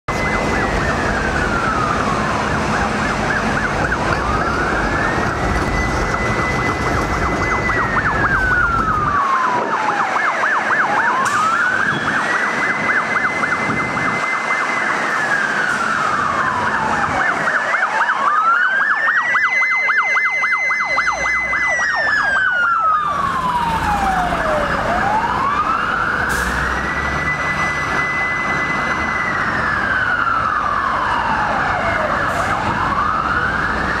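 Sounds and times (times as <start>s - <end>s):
traffic: 0.0s - 34.0s
fire truck siren wailing: 0.1s - 34.0s.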